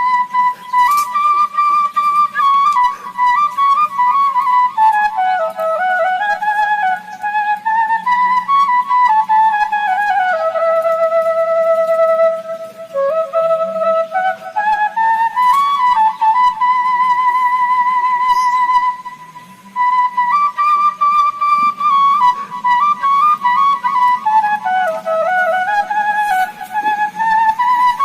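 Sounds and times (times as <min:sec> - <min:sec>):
solo flute melody: 0:00.0 - 0:28.0.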